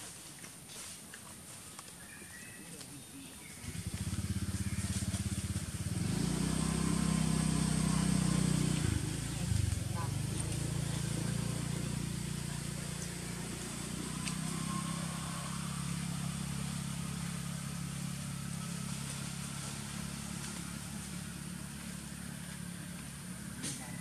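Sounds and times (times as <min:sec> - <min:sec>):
engine idling hum: 0:03.4 - 0:24.0.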